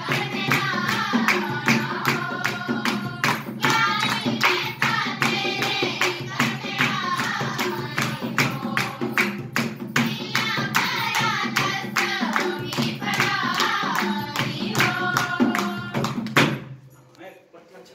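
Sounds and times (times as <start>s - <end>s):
girls singing together: 0.0s - 16.6s
hand drum: 0.0s - 16.7s
rhythmic hand clapping: 0.0s - 16.8s.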